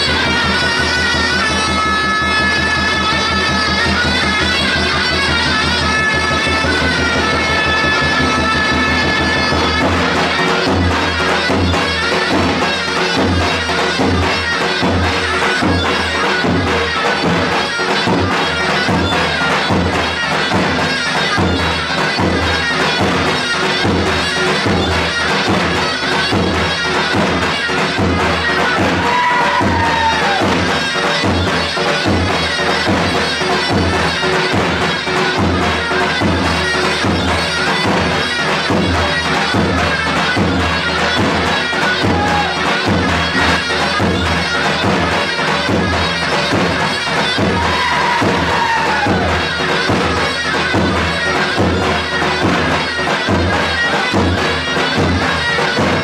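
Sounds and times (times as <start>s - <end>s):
shrill reed pipe melody: 0.0s - 56.0s
steady drum beat: 0.0s - 56.0s.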